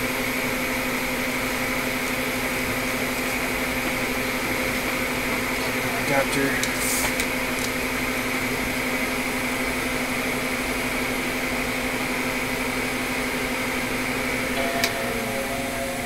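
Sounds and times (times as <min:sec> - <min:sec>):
fan hum with pitched tone: 0:00.0 - 0:16.0.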